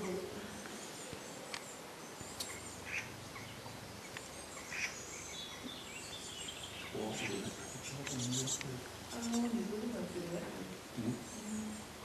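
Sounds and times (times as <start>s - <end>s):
bird calls: 0.0s - 10.3s
faint outdoor background noise: 0.0s - 12.0s.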